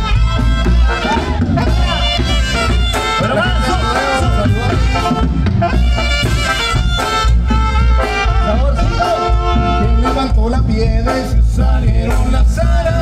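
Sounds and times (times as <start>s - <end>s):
horns holding long notes: 0.0s - 11.3s
bass drum beat: 0.0s - 13.0s.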